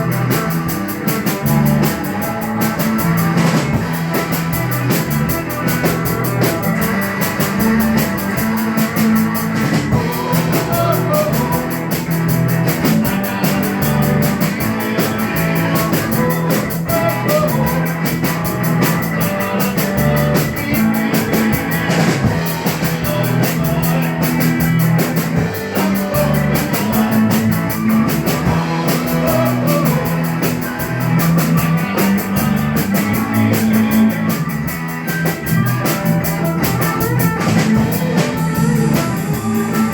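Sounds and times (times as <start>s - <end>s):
bass line: 0.0s - 39.9s
drums driving beat: 0.0s - 39.9s
rock band playing: 0.0s - 39.9s.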